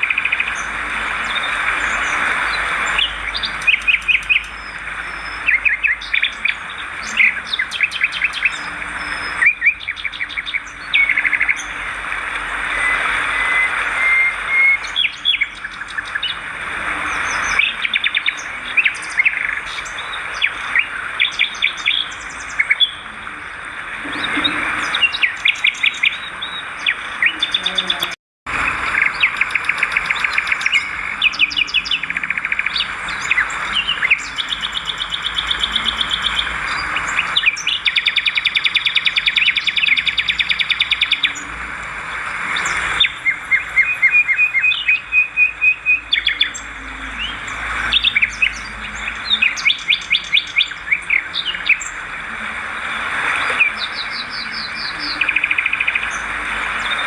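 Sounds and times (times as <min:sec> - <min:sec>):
swiftlets twittering: 0:00.0 - 0:57.0.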